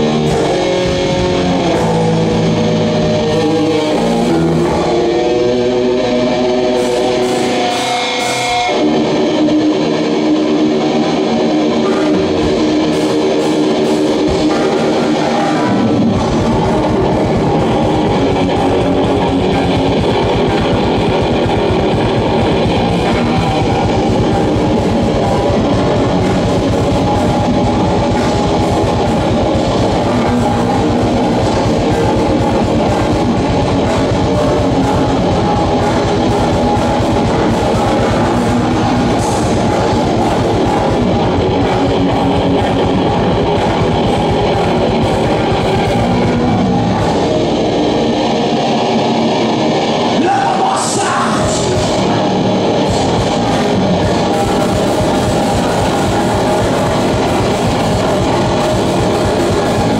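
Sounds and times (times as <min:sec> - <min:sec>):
distorted electric guitars: 0:00.0 - 0:59.9
drums and bass fast beat: 0:00.0 - 0:59.9.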